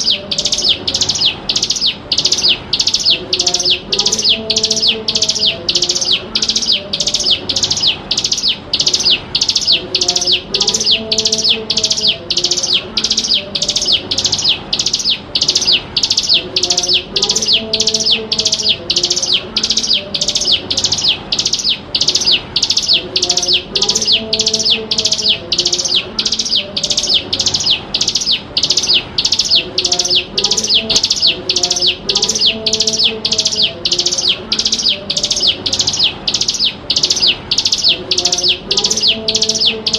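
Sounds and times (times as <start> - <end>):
bird high sharp chirps: 0.0 - 39.9
lower tonal bird phrase: 0.0 - 39.9.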